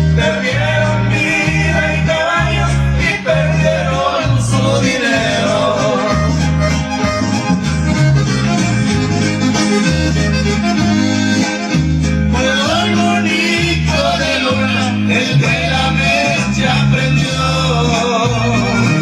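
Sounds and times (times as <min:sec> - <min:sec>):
accordion melody: 0:00.0 - 0:19.0
stepping bass line: 0:00.0 - 0:19.0.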